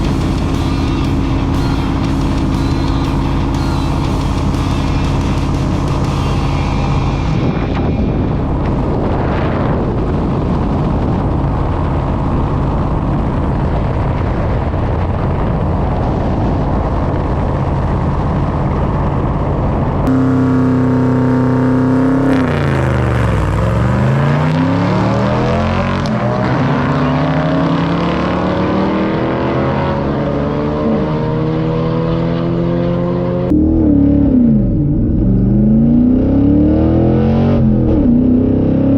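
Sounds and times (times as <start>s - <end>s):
car engine revving: 0.0s - 38.9s
road noise: 0.0s - 38.9s.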